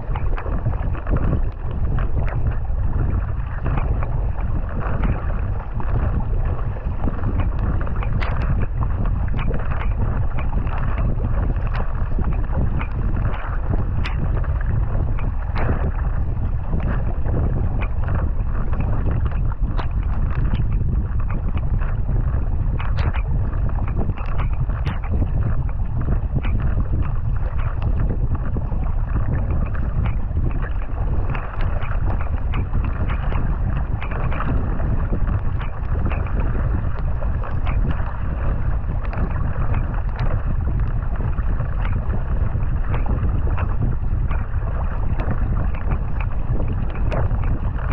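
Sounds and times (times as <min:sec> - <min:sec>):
paddle splashes: 0:00.0 - 0:47.9
water rushing along hull: 0:00.0 - 0:47.9
wind buffeting microphone: 0:00.0 - 0:47.9.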